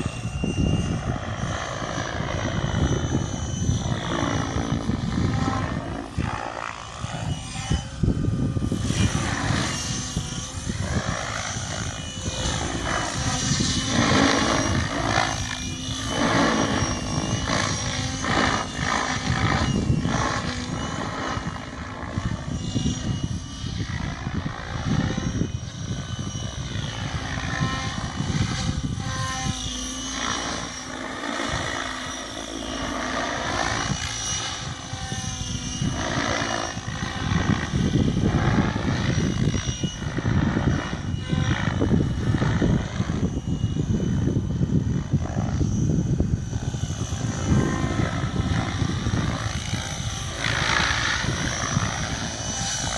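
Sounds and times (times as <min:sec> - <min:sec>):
helicopter rotor blades chopping: 0:00.0 - 0:52.9
motor whine sweeping in pitch: 0:00.0 - 0:52.9.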